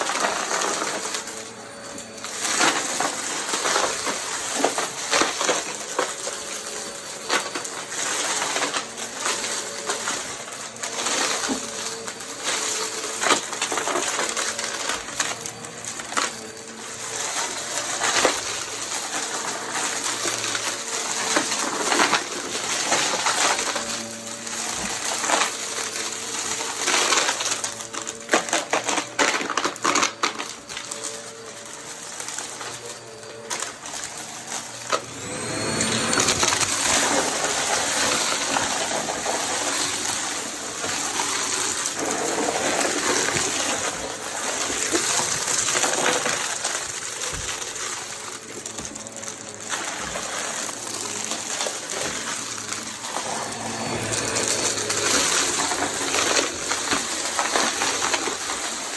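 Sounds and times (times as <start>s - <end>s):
debris crackling in vacuum: 0.0s - 58.9s
vacuum cleaner motor hum: 0.0s - 58.9s.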